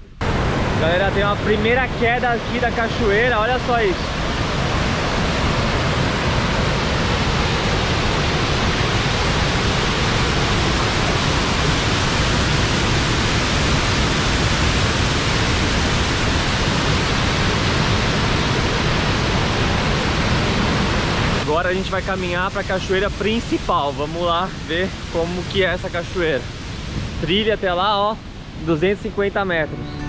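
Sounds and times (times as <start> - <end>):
waterfall rushing into pool: 0.2 - 29.7.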